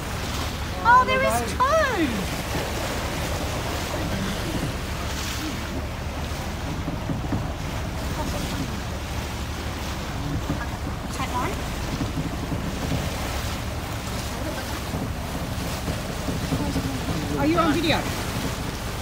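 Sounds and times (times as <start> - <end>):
water splashing against boat: 0.0 - 19.0
wind buffeting microphone: 0.0 - 19.0.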